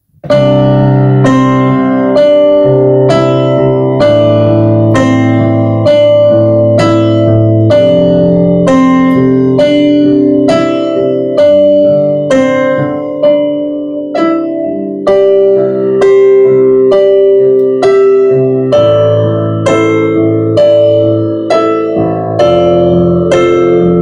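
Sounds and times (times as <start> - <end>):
keyboard melody with piano sound: 0.0 - 24.0
sustained piano chords with bass: 0.0 - 24.0.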